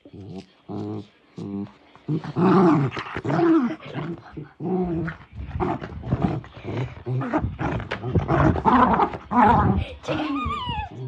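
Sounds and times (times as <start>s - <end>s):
dog growling: 0.0s - 11.0s.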